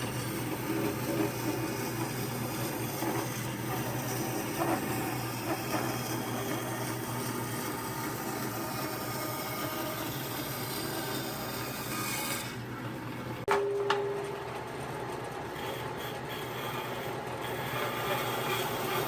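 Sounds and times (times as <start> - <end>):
wood being worked with a tool: 0.0 - 12.8, 15.1 - 19.0
steady machine hum: 0.0 - 19.0.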